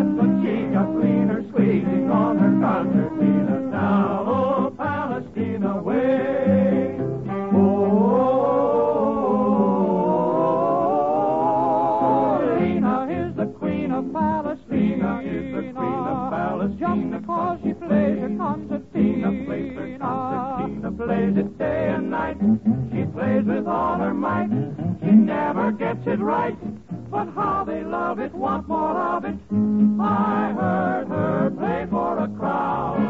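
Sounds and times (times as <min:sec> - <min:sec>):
male vocal quartet singing: 0:00.0 - 0:33.0.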